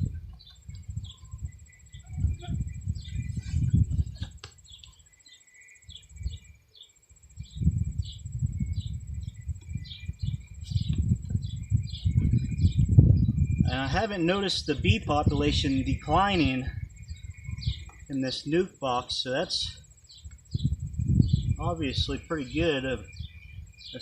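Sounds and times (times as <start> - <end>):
low rumbling noise: 0.0 - 4.2, 7.2 - 23.8
birds chirping: 0.0 - 24.0
insect trilling: 0.1 - 24.0.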